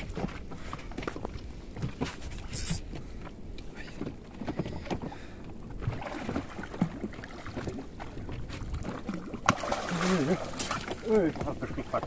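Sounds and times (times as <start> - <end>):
water slapping against boat hull: 0.0 - 12.0.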